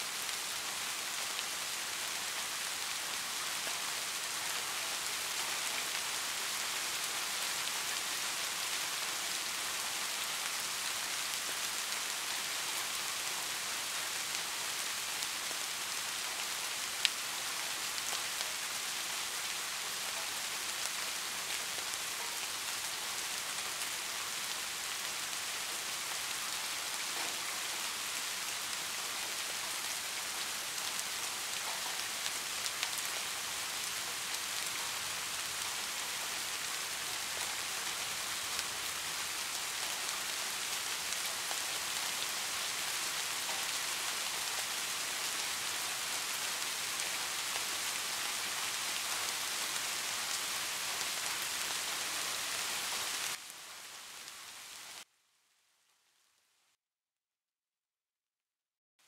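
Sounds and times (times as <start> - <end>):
louder raindrops: 0.0 - 55.1
steady rain hiss: 0.0 - 56.7.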